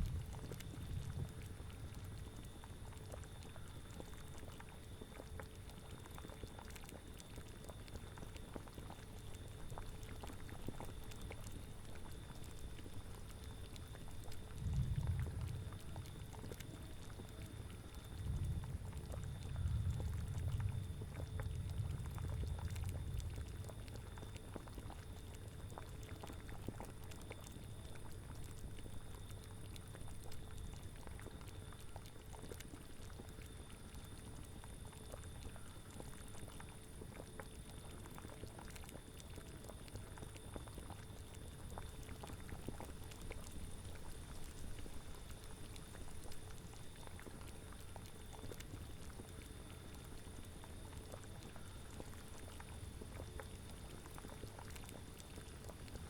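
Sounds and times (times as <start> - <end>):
cauldron bubbling: 0.0 - 56.0.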